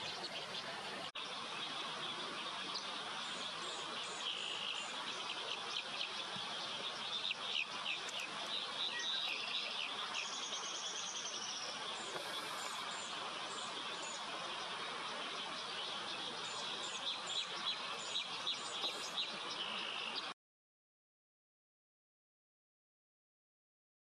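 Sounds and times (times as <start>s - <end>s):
steady hiss: 0.0s - 19.9s
birds chirping: 0.0s - 20.4s.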